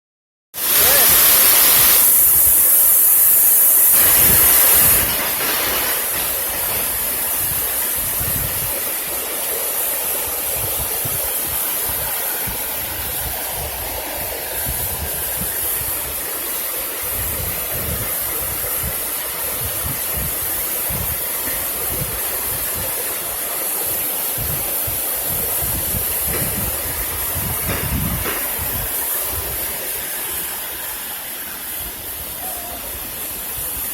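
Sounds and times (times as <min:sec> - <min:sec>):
waterfall rushing: 0:00.6 - 0:33.9.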